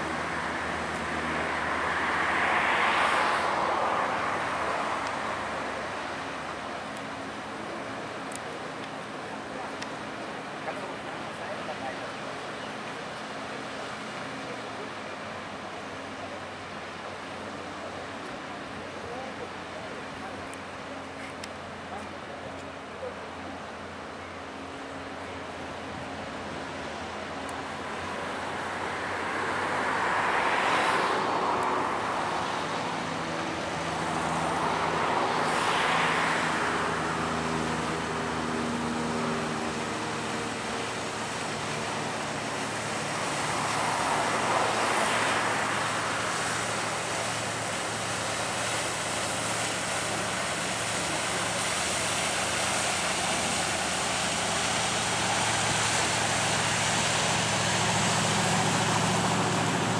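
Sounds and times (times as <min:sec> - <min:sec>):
low engine hum: 0:00.0 - 0:59.9
vehicles passing: 0:00.0 - 0:59.9.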